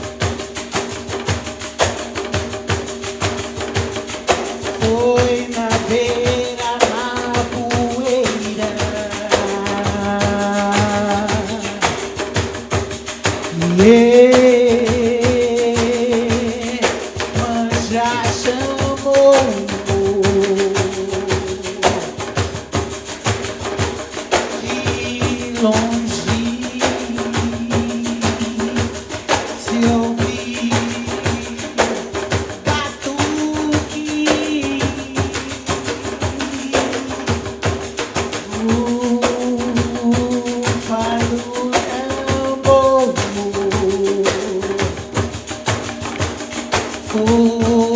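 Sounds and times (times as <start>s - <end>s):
frame drums with jingles playing: 0.0s - 47.9s.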